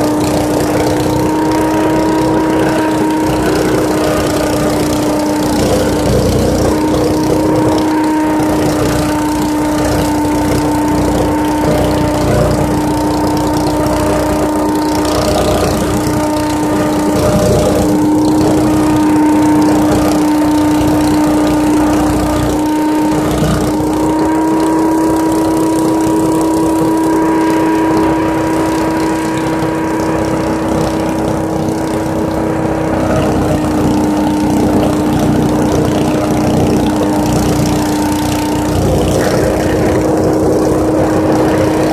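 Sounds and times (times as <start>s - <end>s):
leaf vacuum running: 0.0s - 41.9s.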